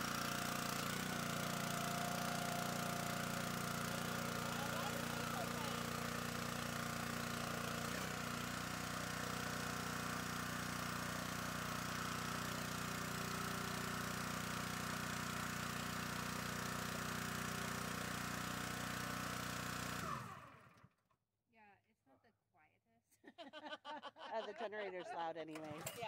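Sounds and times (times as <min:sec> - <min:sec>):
small gas engine idling: 0:00.0 - 0:21.0, 0:25.6 - 0:26.0.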